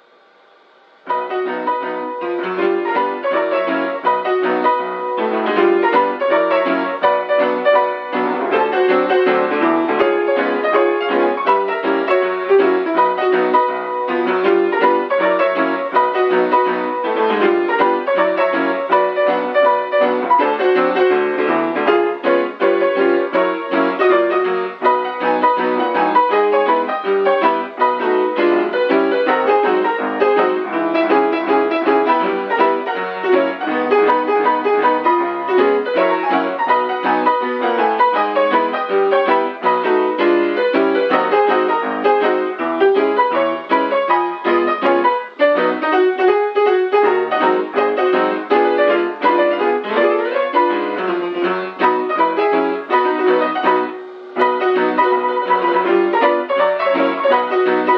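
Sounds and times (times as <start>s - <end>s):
piano music: 0.0s - 57.9s.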